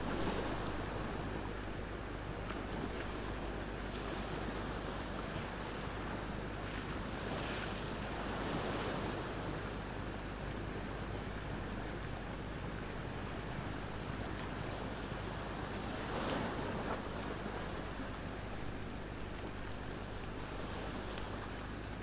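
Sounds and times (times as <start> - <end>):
ocean waves washing ashore: 0.0 - 10.2, 10.8 - 22.0.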